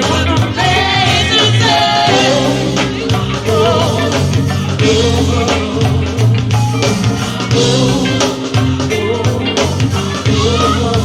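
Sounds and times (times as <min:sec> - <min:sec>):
drum and percussion groove: 0:00.0 - 0:11.0
person singing: 0:00.0 - 0:11.0
sustained bass notes: 0:00.0 - 0:11.0.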